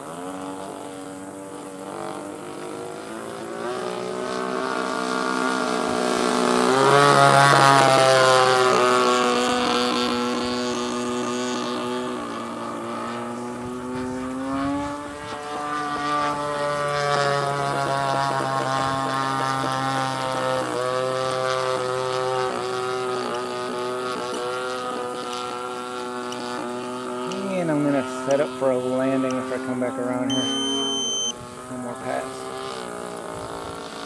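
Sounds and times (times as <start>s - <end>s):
model plane engine and propeller: 0.0s - 34.0s.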